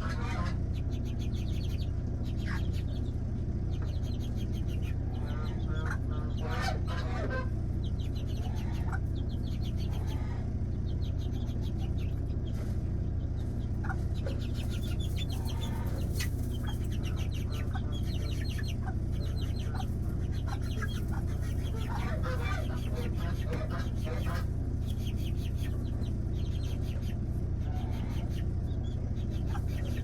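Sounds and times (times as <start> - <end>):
chickens clucking: 0.0 - 30.0
steady low hum: 0.0 - 30.0.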